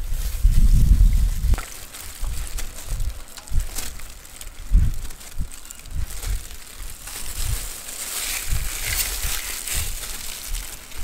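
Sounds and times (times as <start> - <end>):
plastic gloves crinkling: 0.0 - 11.0.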